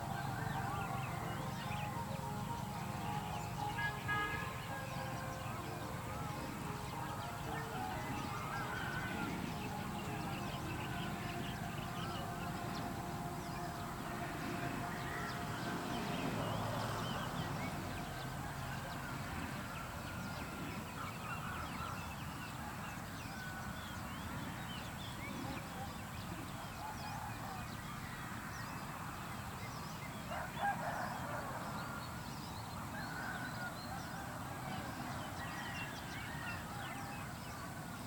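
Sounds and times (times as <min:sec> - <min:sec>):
birds calling and chirping: 0:00.0 - 0:38.0
steady low background noise: 0:00.0 - 0:38.0.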